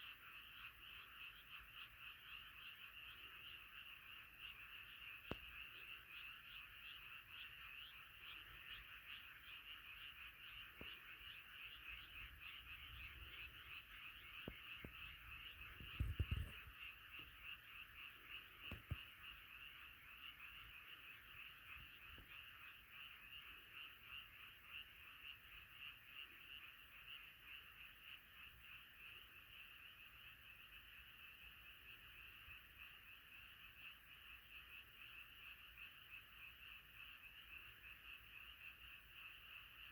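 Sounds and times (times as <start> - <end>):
frogs trilling: 0.0 - 39.9.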